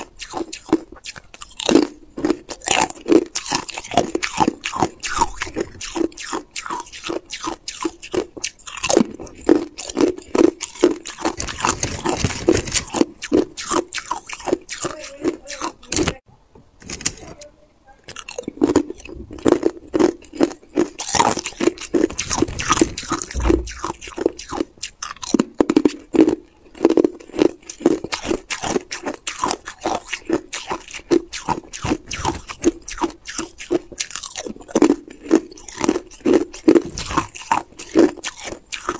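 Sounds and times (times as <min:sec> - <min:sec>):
ice crunching between teeth: 0:00.0 - 0:16.2, 0:18.1 - 0:38.9.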